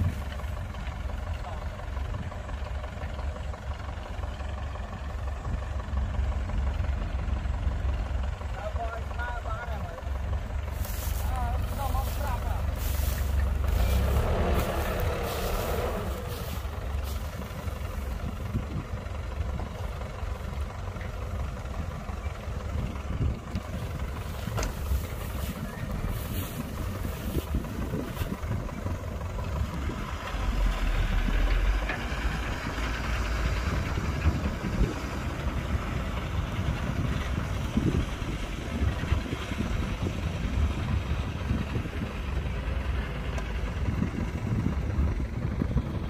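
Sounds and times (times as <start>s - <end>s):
diesel construction machinery rumbling: 0.0s - 46.0s.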